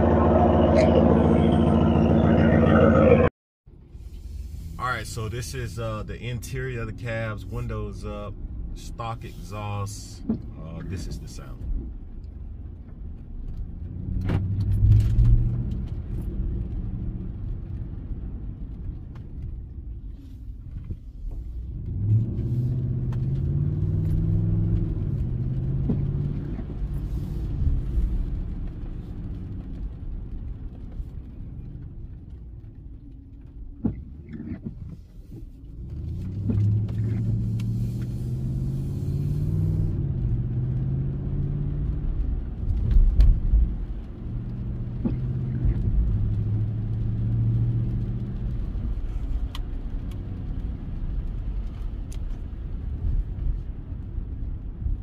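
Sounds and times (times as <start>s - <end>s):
truck engine drone from inside cab: 0.0s - 11.5s, 20.1s - 55.0s.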